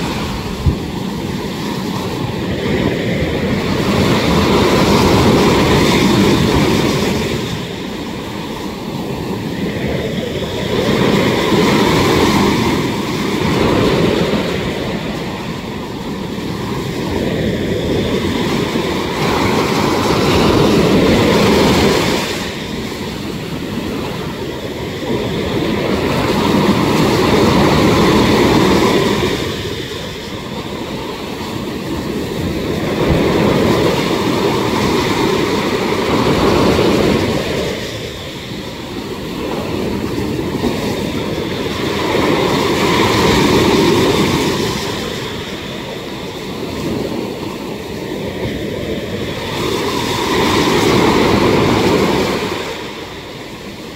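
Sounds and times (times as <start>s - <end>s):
sea surf breaking against rocks: 0.0s - 53.9s.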